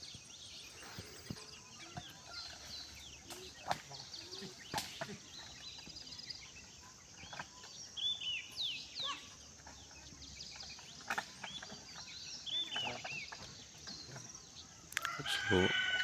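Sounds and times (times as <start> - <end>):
birds chirping: 0.0 - 16.0
outdoor background: 0.0 - 16.0.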